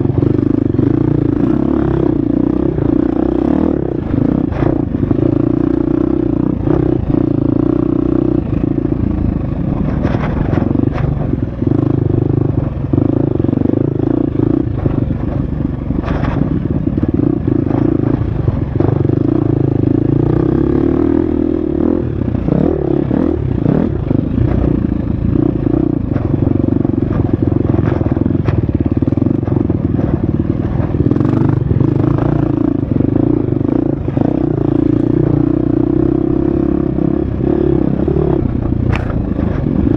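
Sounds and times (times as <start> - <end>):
dirt bike engine running hard: 0.0 - 39.9.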